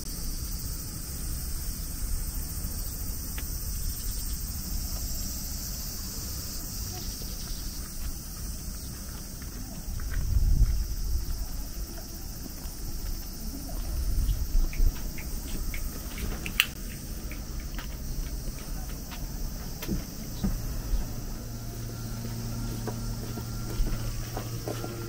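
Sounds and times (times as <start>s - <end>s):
high-pitched insect chorus: 0.0s - 25.0s
steady low hum: 0.0s - 25.0s
low rumble: 0.1s - 25.0s.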